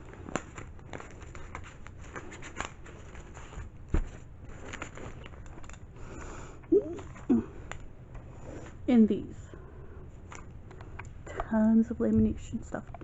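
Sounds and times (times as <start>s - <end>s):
papers and small items handled: 0.0s - 8.8s, 10.1s - 13.0s.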